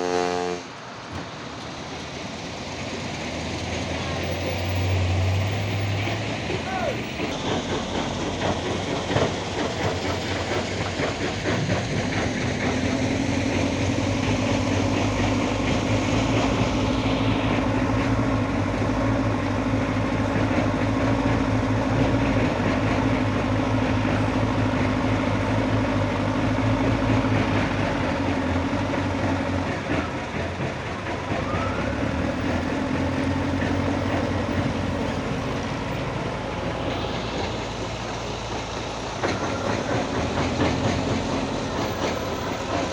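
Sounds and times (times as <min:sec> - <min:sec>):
excavator diesel engine rumbling: 0:00.0 - 0:42.9.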